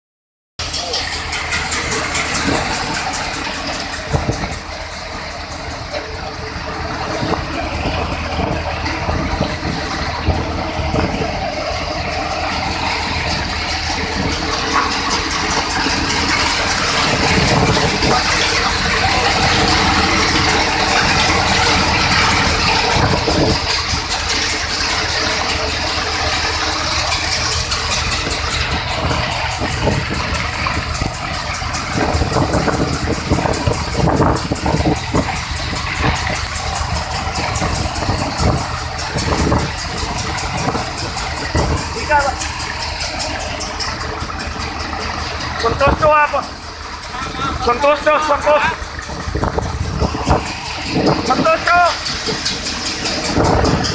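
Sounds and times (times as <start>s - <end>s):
thresher machine running: 0.6s - 53.9s.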